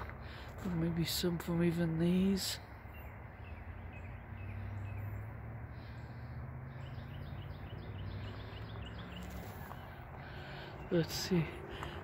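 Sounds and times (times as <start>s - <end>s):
low outdoor rumble: 0.0s - 12.0s
small birds chirping: 0.1s - 12.0s.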